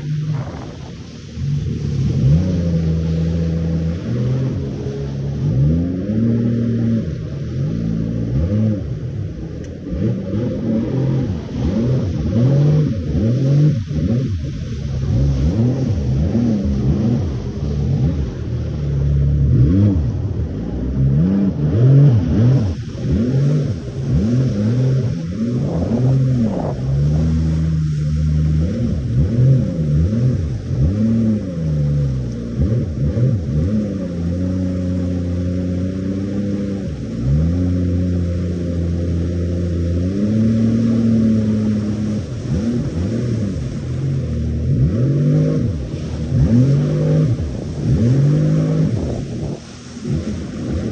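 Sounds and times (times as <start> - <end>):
jet ski engine running hard: 0.0 - 50.9.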